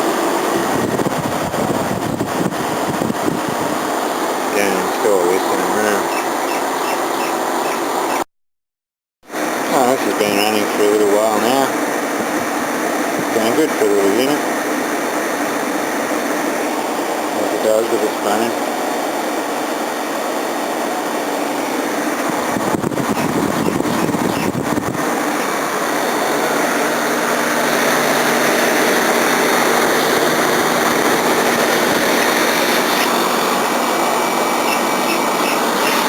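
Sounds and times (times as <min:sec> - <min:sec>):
air conditioner running: 0:00.0 - 0:08.2, 0:09.3 - 0:36.0.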